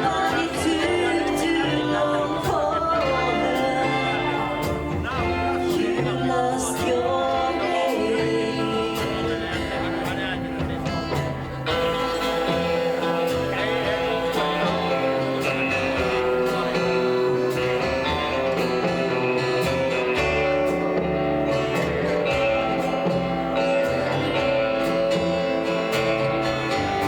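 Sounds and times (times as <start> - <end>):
lead guitar: 0.0 - 27.0
rockabilly band playing: 0.0 - 27.0
steady drum beat: 0.0 - 27.0
walking bass line: 0.0 - 27.0.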